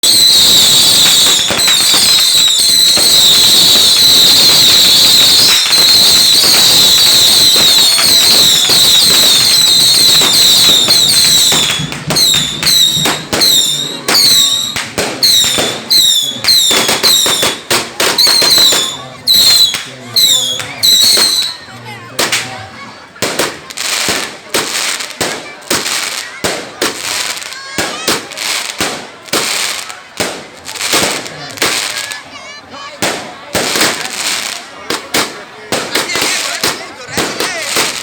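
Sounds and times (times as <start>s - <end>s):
whistling fireworks: 0.0s - 22.6s, 23.2s - 38.0s
firework cracks: 0.0s - 38.0s.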